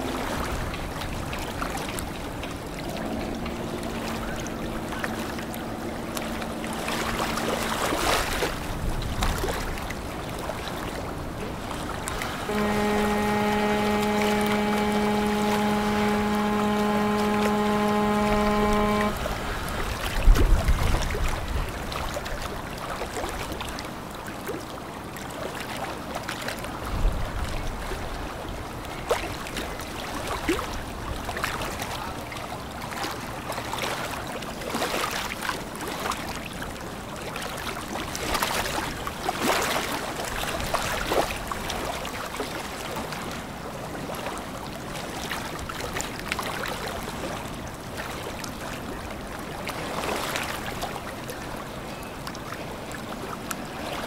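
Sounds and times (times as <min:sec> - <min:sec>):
river water washing and splashing: 0:00.0 - 0:54.0.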